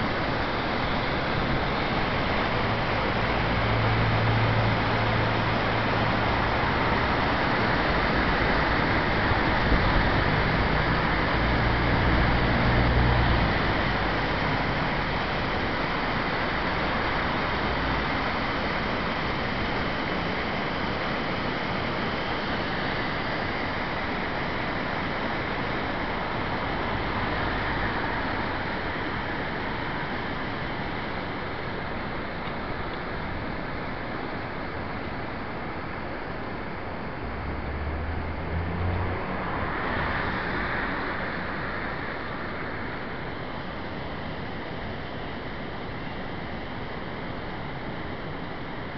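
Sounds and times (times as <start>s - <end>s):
water roaring over weir: 0.0s - 48.9s.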